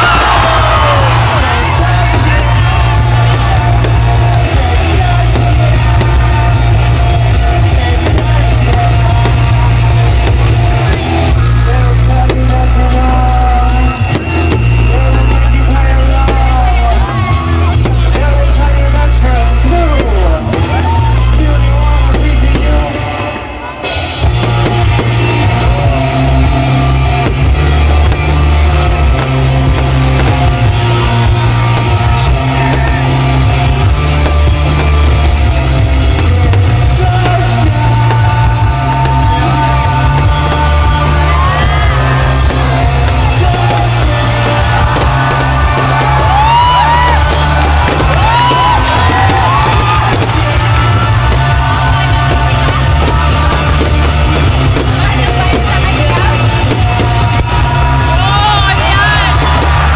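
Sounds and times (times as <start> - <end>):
crowd yelling and whooping: 0.0 - 59.9
loud rock music with heavy bass: 0.0 - 59.9.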